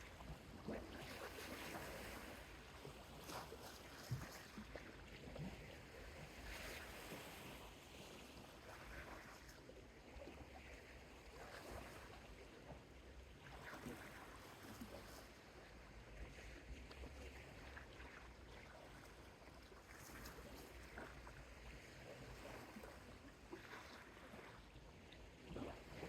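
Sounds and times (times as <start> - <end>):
gentle ocean waves: 0.0 - 26.0.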